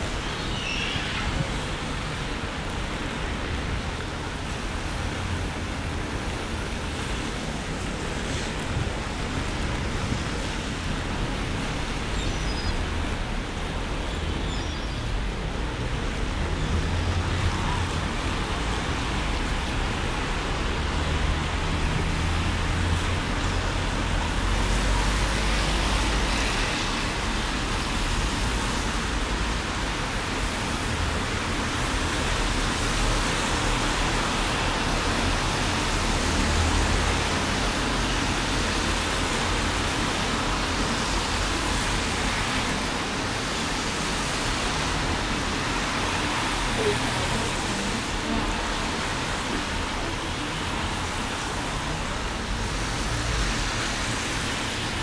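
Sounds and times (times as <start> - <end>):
heavy rain on a street: 0.0 - 55.0
passing traffic rumble: 0.0 - 55.0.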